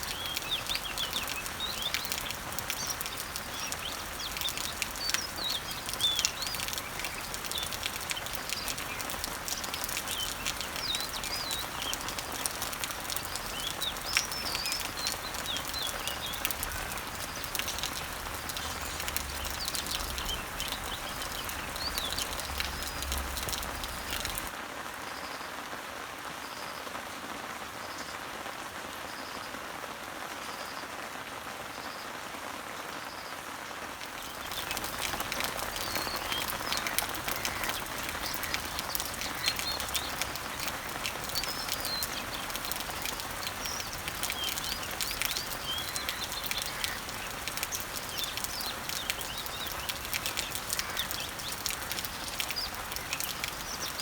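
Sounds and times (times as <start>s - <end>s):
birds chirping: 0.0s - 24.6s, 34.0s - 54.0s
rain falling on leaves: 0.0s - 54.0s.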